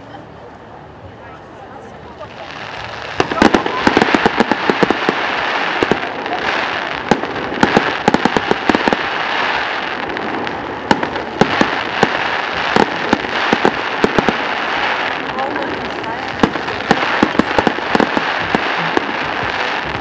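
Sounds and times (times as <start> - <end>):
steady rushing noise: 0.8 - 20.0
fireworks bangs and pops: 2.4 - 20.0.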